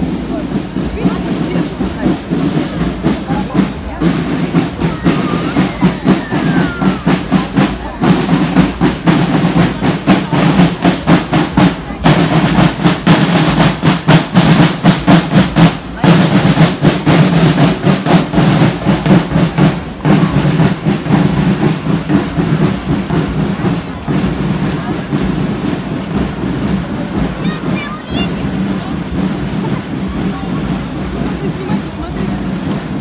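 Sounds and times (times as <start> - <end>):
snare drums marching rhythm: 0.0 - 33.0.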